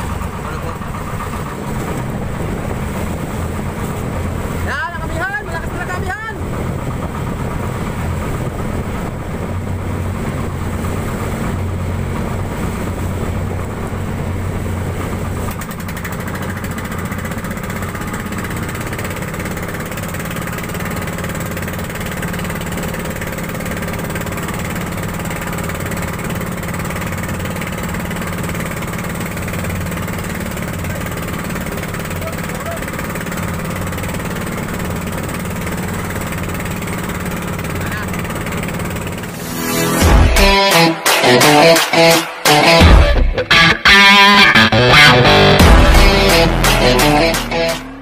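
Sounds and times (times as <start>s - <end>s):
boat engine running: 0.0s - 48.0s
water noise: 0.0s - 48.0s.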